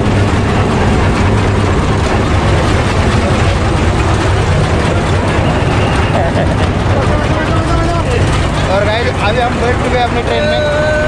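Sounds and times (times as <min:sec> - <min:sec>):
toy train locomotive idling: 0:00.0 - 0:11.0.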